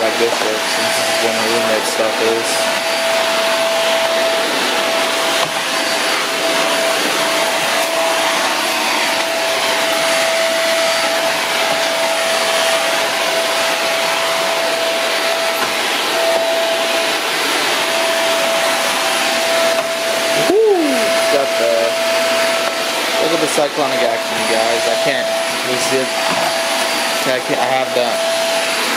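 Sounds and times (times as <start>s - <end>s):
stick vacuum running: 0.0s - 28.9s.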